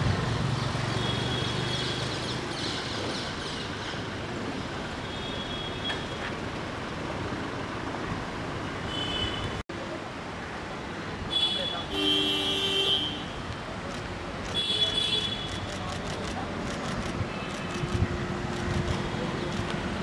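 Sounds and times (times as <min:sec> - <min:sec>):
traffic hum: 0:00.0 - 0:20.0.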